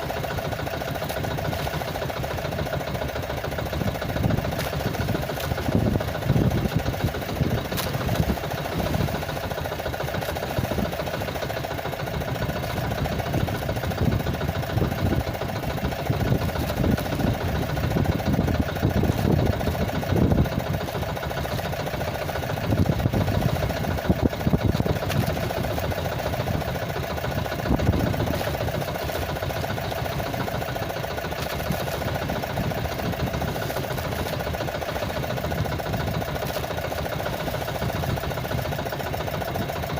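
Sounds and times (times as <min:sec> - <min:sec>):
small engine idling: 0:00.0 - 0:39.9
low rumbles: 0:03.5 - 0:11.2, 0:12.1 - 0:38.5.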